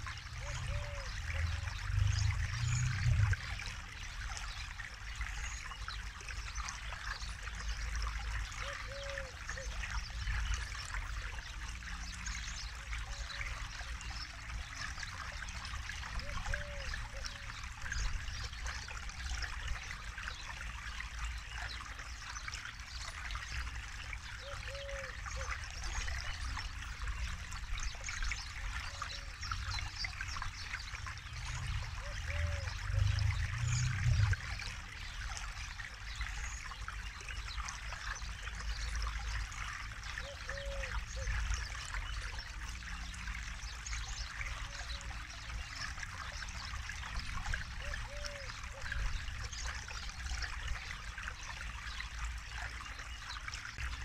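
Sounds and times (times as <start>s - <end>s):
river water babbling: 0.0s - 54.0s.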